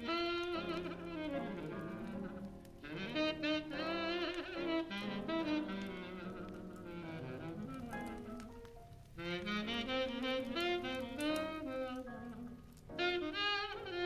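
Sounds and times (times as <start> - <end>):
fireplace crackling: 0.0 - 14.0
slow jazz with saxophone melody: 0.0 - 14.0.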